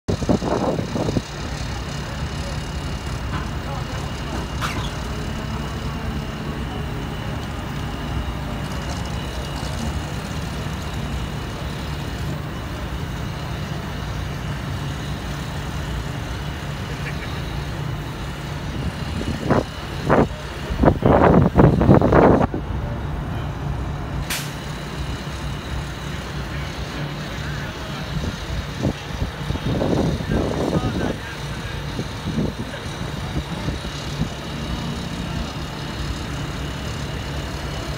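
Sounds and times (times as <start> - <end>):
diesel engine humming: 0.0 - 37.9.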